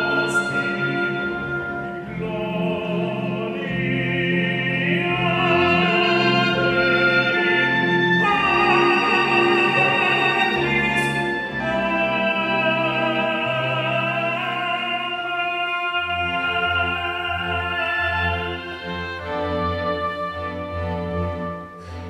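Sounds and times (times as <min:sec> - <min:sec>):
operatic voices singing: 0:00.0 - 0:19.4
chamber orchestra chords: 0:00.0 - 0:22.0.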